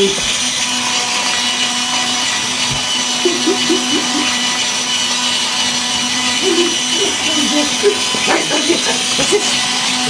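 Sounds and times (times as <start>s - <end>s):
small electric motor whirring: 0.0s - 10.0s.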